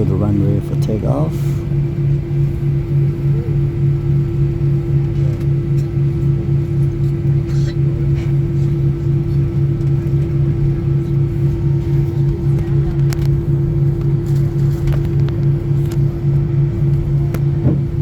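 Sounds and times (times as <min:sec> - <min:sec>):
aircraft cabin rumble: 0:00.0 - 0:18.0
pulsing low drone: 0:00.0 - 0:18.0.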